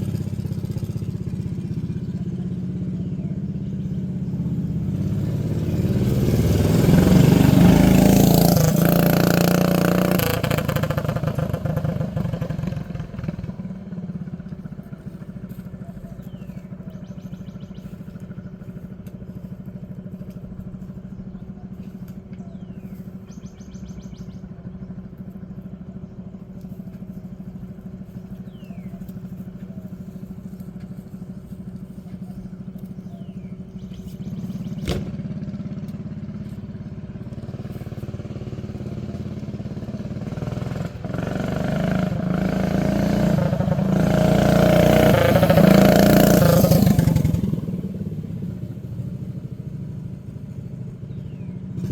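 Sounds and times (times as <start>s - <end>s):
mini bike engine running: 0.0s - 51.9s.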